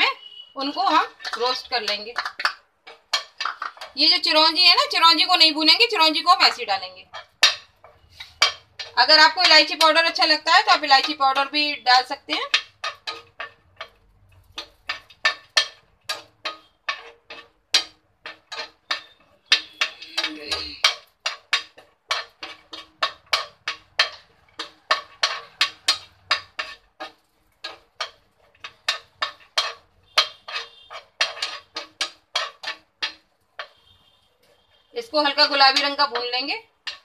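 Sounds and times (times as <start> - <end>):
spatula scraping frying pan: 0.0 - 37.0.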